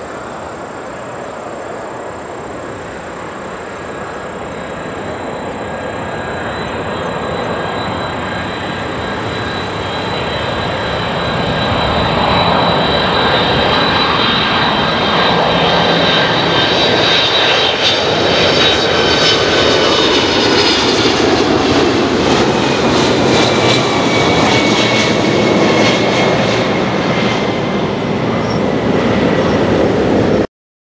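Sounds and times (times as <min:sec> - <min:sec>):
jet airliner flying overhead: 0:00.0 - 0:30.5.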